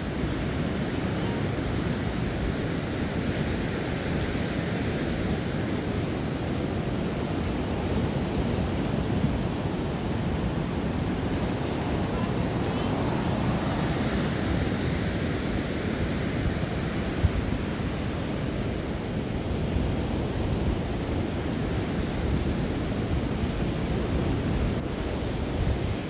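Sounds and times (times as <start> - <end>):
surf washing: 0.0 - 26.0
wind buffeting microphone: 0.0 - 26.0.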